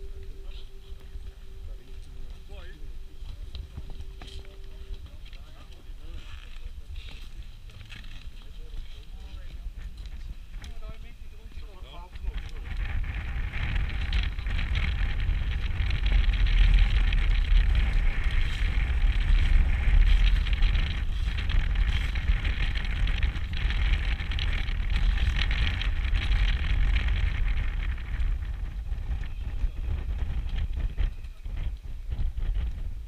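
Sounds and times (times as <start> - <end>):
strong wind buffeting microphone: 0.0 - 33.0.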